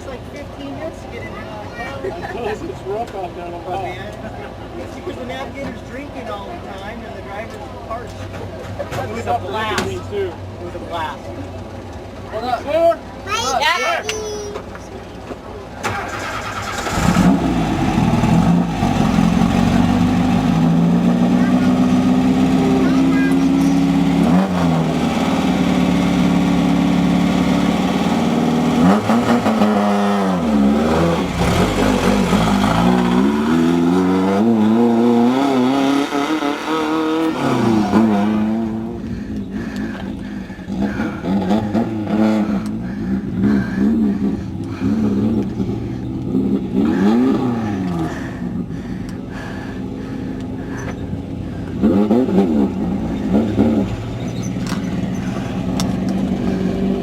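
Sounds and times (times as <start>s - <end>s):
buggy engine revving: 0.0s - 57.0s.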